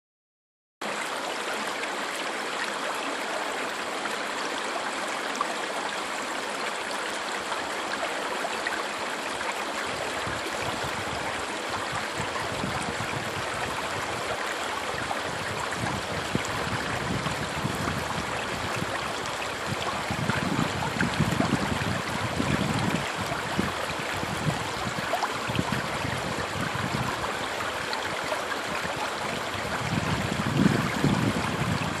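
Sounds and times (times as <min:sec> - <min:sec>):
brook babbling over rocks: 0:00.8 - 0:32.0.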